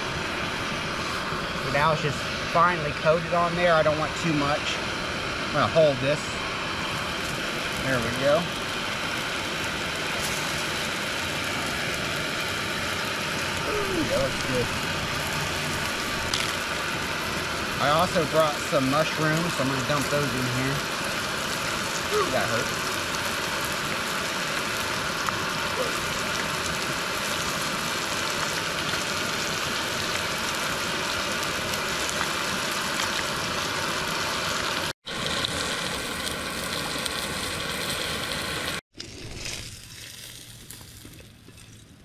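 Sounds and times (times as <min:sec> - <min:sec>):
fish and mushrooms sizzling in oil: 0:00.0 - 0:41.9.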